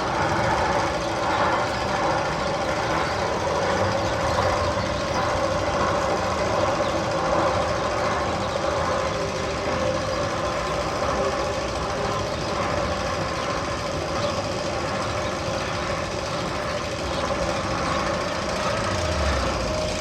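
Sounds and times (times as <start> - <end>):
mechanical engine-like rumble: 0.0 - 20.0.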